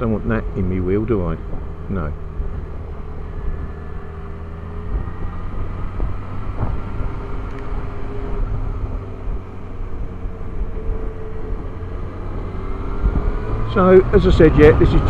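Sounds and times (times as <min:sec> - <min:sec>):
low wind rumble: 0:00.0 - 0:15.0
motorcycle engine running: 0:00.0 - 0:15.0.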